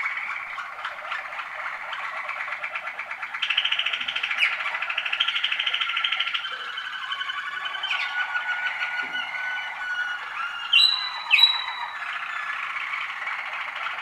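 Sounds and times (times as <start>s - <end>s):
canaries singing rolling trills: 0.0s - 14.0s.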